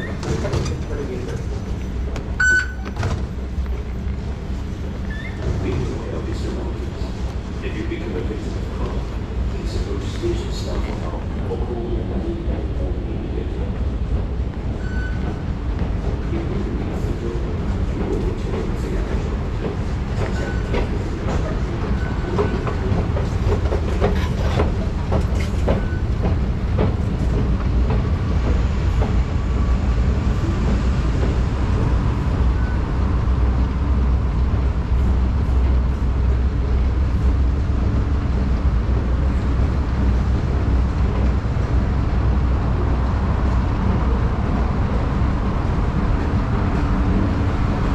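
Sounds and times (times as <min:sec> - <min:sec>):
escalator rumble and hum: 0:00.0 - 0:47.9.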